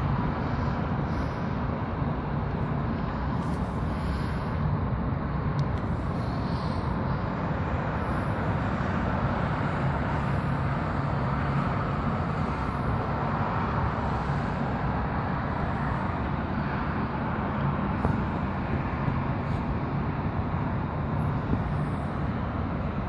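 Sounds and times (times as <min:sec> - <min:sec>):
distant city traffic hum: 0:00.0 - 0:23.0.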